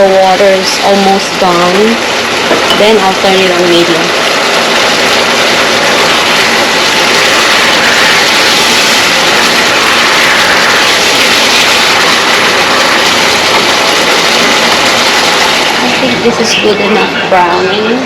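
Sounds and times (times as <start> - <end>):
pork sizzling in a hot pan: 0.0 - 17.1.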